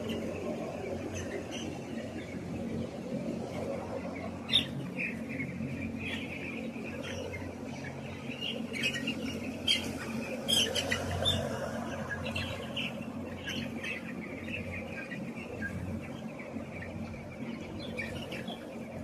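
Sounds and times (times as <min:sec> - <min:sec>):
chicks chirping and peeping: 0:00.0 - 0:19.0
steady low hum: 0:00.0 - 0:19.0.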